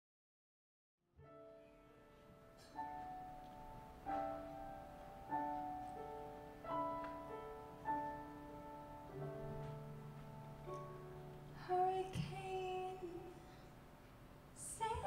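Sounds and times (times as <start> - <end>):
piano chords ringing: 1.2 - 15.0.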